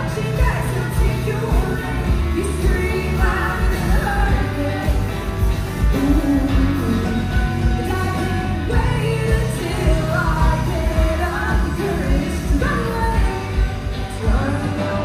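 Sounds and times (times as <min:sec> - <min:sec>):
drum kit beat: 0:00.0 - 0:15.0
electric guitars: 0:00.0 - 0:15.0
keyboard: 0:00.0 - 0:15.0
person singing: 0:00.0 - 0:15.0.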